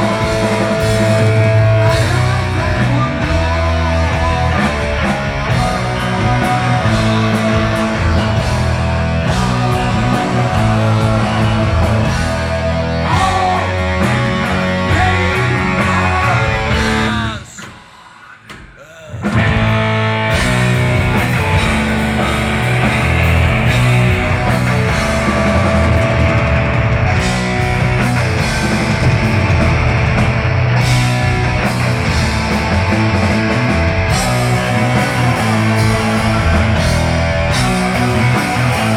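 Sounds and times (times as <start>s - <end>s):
heavy metal band playing: 0.0s - 18.0s, 18.8s - 38.9s.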